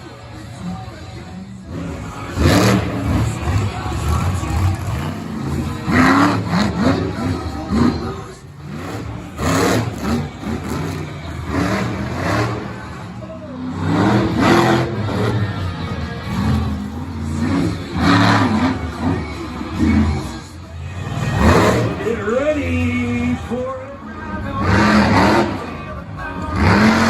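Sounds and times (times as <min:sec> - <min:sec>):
monster truck engine revving: 0:00.5 - 0:23.6, 0:24.3 - 0:27.0.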